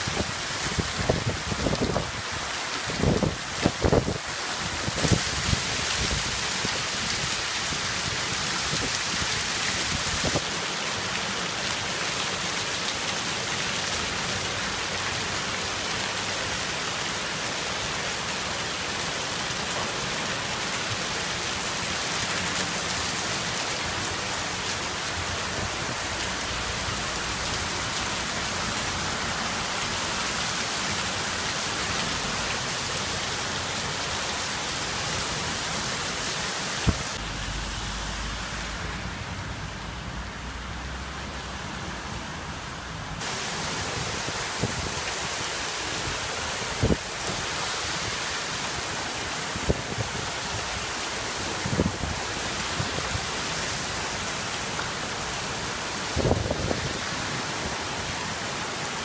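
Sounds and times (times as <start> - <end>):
heavy rain and hail: 0.0 - 59.0.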